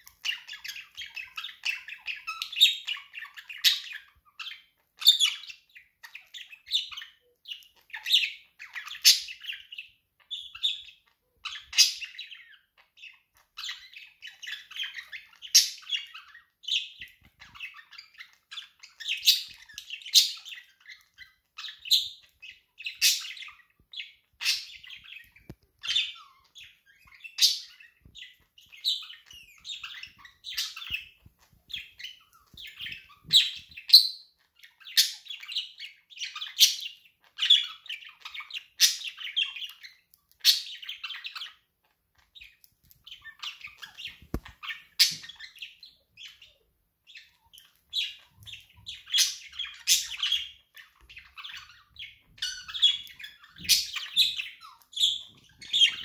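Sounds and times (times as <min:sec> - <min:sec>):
budgerigars warbling and chattering: 0:00.0 - 0:56.0.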